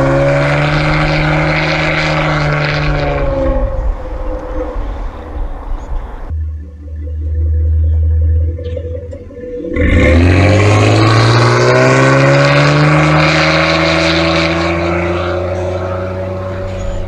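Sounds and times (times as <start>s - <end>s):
car engine revving: 0.0s - 6.3s, 9.5s - 17.0s.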